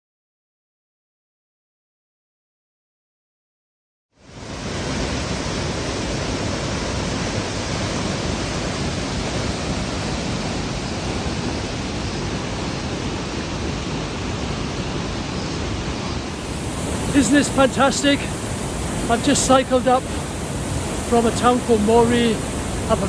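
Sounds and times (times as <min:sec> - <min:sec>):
waterfall and river rushing: 0:04.2 - 0:23.0.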